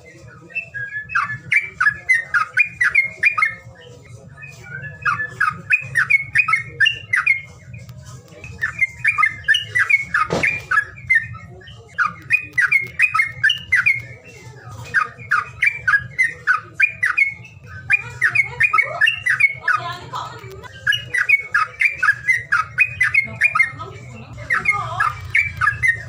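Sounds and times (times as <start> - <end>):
songbird harsh chirps: 0.0 - 26.0.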